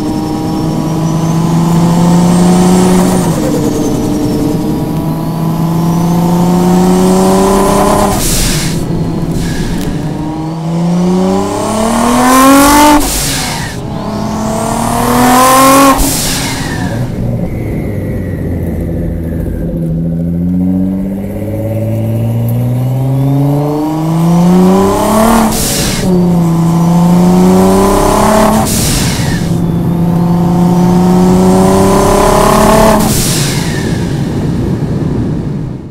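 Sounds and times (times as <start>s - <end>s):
loud turbo whoosh: 0.0s - 34.6s
car engine accelerating: 0.0s - 35.9s.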